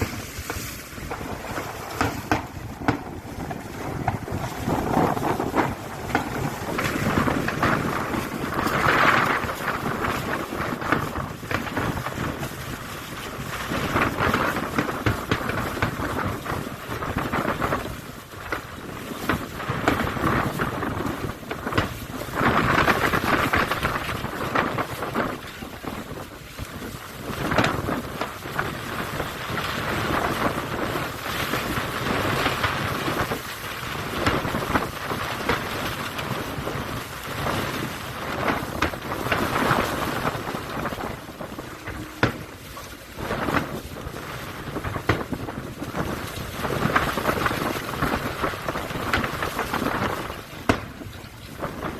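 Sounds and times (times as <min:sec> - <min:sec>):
firework shells booming: 0:00.0 - 0:51.9
fireworks crackling: 0:00.0 - 0:51.9.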